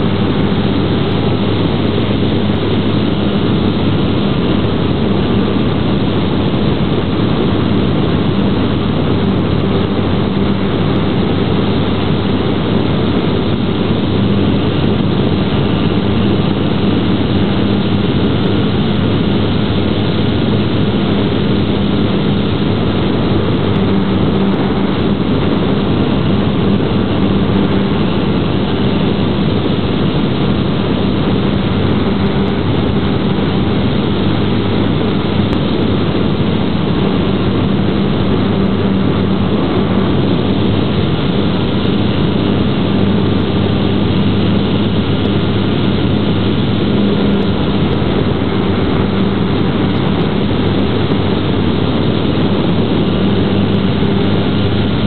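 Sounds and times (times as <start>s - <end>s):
model plane motor droning: 0.0s - 55.0s.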